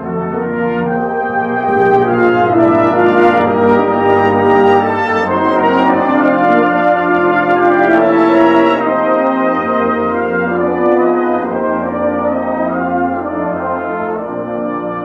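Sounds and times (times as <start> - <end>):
cornet playing melody: 0.0 - 15.0.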